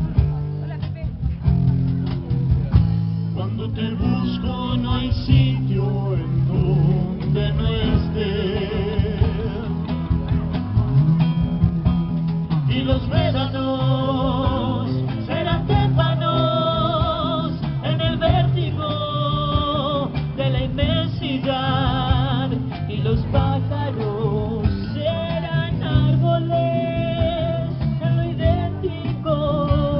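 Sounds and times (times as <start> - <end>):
acoustic band playing: 0.0 - 29.9.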